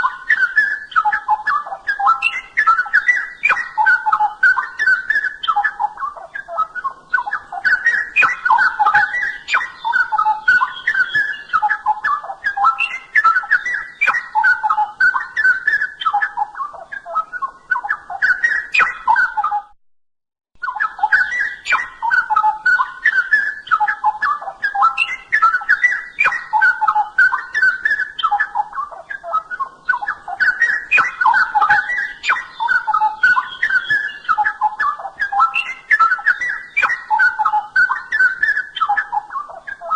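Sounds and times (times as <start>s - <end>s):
bird singing warbled phrases: 0.0s - 19.8s, 20.6s - 39.9s
faint high chirps: 0.0s - 19.8s, 20.6s - 39.9s.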